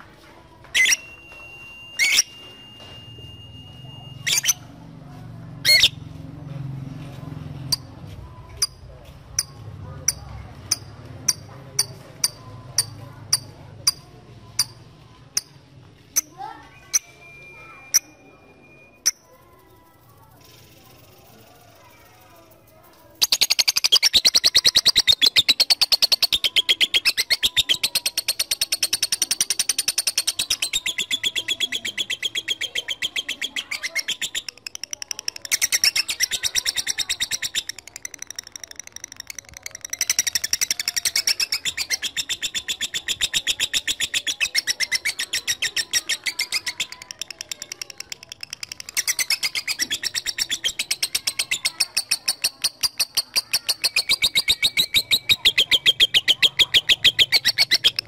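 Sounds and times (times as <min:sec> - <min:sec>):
lovebird rattling chatter: 0:00.7 - 0:01.1, 0:08.5 - 0:16.3, 0:19.0 - 0:58.0.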